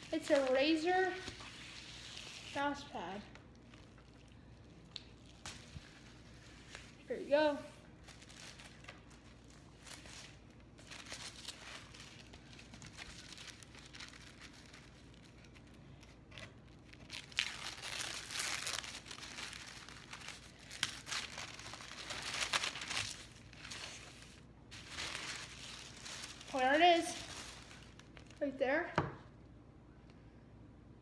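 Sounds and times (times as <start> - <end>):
wrapping paper crinkling and tearing: 0.0 - 28.5.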